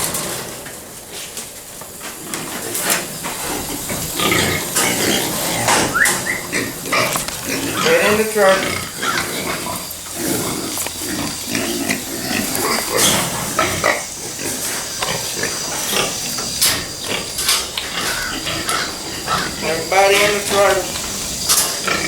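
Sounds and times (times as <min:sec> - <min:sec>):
hogs grunting: 0:02.0 - 0:22.0.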